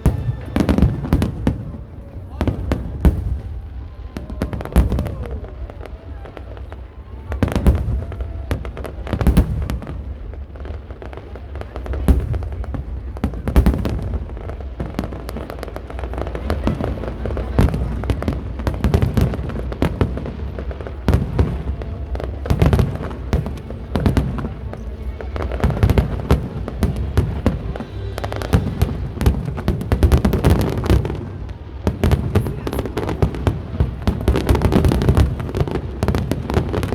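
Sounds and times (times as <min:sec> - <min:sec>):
fireworks booming and crackling: 0:00.0 - 0:36.9
loud firework bangs: 0:00.0 - 0:36.9.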